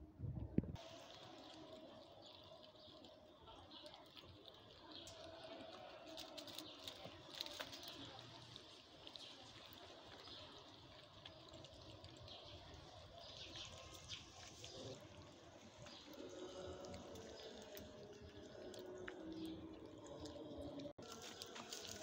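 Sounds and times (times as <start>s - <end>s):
kittens chewing wetly: 0.8s - 22.0s.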